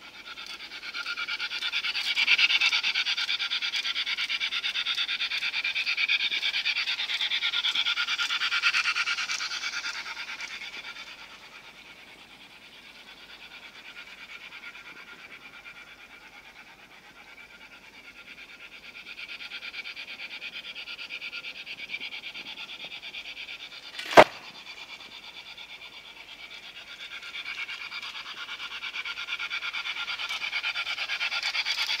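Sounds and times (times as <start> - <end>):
model locomotive motor buzzing: 0.0 - 32.0.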